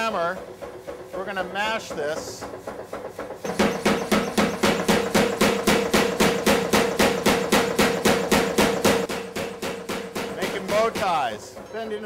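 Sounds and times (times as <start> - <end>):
machine hum: 0.0 - 12.0
power hammer pounding steel: 0.0 - 12.0.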